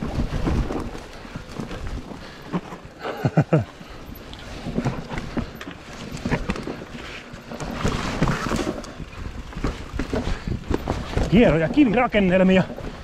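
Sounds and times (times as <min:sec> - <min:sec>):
bike rattling over roots and rocks: 0:00.0 - 0:13.0
tyre and wind noise: 0:00.0 - 0:13.0.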